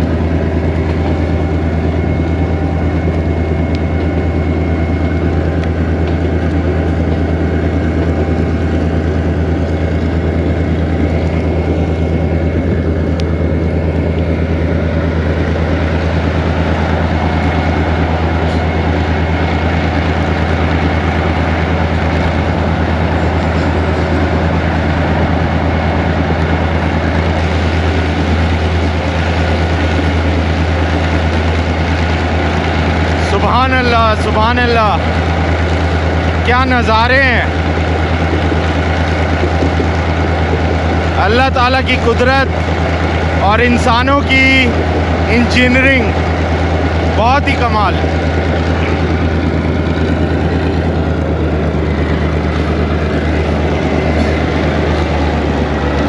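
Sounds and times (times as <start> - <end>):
locomotive diesel engine drone: 0.0 - 56.0.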